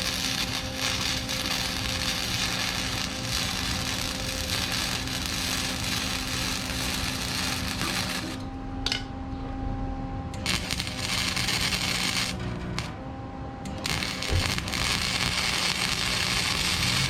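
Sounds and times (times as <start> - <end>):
welder arc crackling: 0.0 - 8.6, 10.4 - 13.0, 13.7 - 17.0
steady low hum: 0.0 - 17.0.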